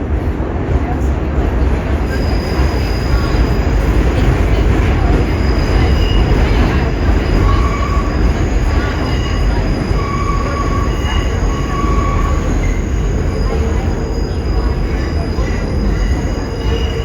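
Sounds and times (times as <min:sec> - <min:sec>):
subway train rumbling in tunnel: 0:00.0 - 0:17.0
wheels squealing: 0:02.1 - 0:17.0.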